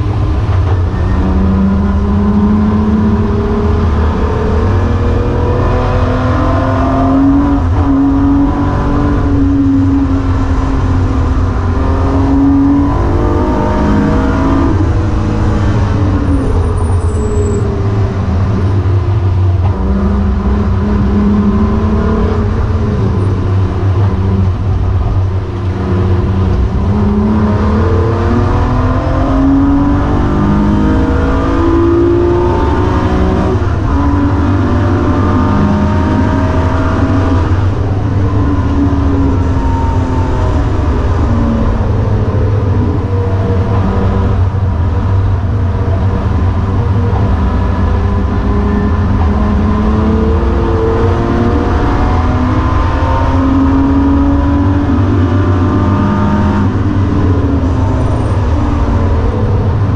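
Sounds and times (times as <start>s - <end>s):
car engine revving under acceleration: 0.0s - 59.9s.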